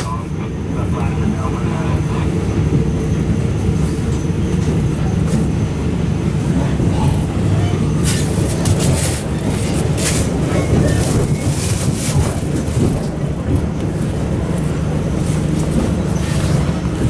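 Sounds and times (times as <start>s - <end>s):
sharp train clatters: 0.0s - 17.0s
train rumbling on rails: 0.0s - 17.0s.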